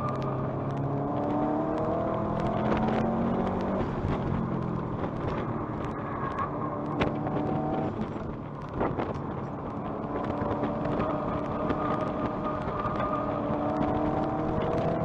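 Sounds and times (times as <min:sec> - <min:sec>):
road and wind noise: 0:00.0 - 0:15.0
turbocharged car engine: 0:00.0 - 0:15.0.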